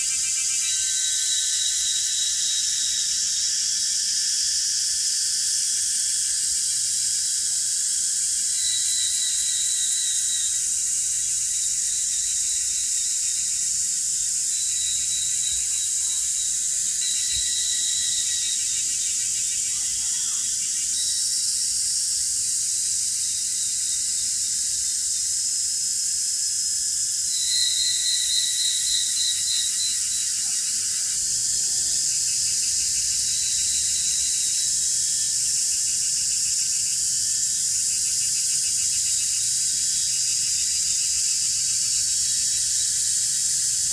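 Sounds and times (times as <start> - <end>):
insects singing: 0.0 - 4.5, 6.1 - 21.3, 27.1 - 43.9
pulsing insect trill: 0.0 - 43.9.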